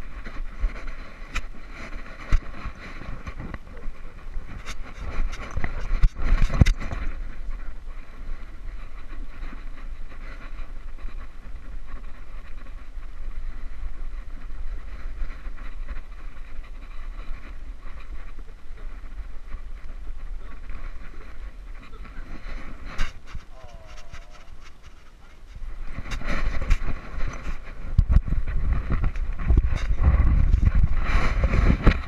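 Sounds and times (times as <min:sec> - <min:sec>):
camera rumble and rubbing: 0:00.0 - 0:32.0.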